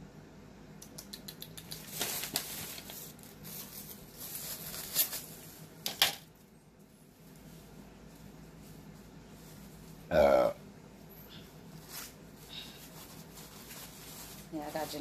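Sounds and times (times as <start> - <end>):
rustling: 1.6 - 10.1, 10.9 - 15.0.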